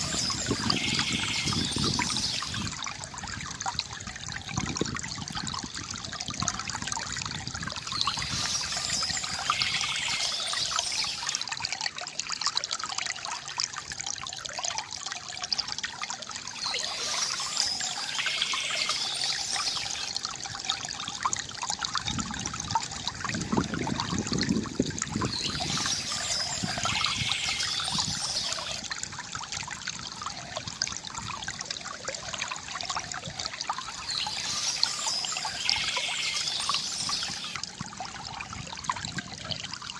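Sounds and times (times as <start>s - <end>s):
water trickling from fountain: 0.0s - 39.9s.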